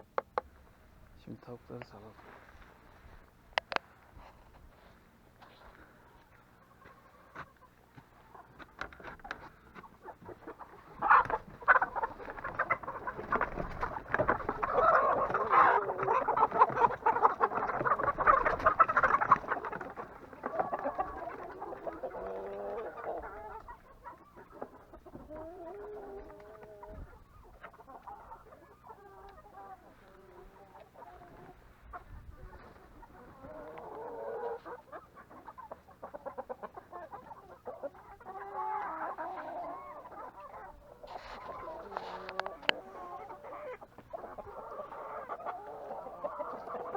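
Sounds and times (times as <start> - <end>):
chickens clucking and squawking: 0.0 - 46.9.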